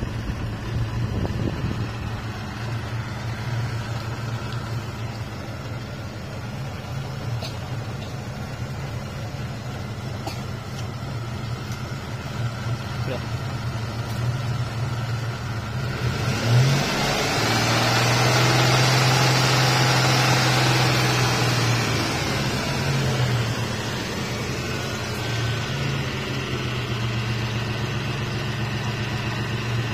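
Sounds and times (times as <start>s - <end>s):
car engine revving and idling: 0.0s - 29.9s.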